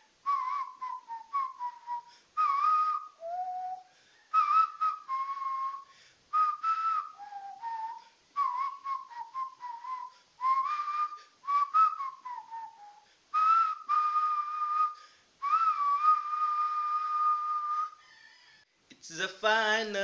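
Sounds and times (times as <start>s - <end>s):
person whistling: 0.2s - 18.4s.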